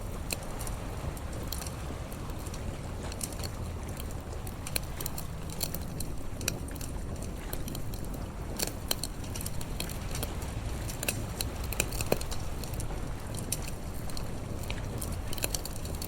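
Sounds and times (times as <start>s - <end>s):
campfire crackling and popping: 0.0s - 16.0s
low steady rumble: 0.0s - 16.0s.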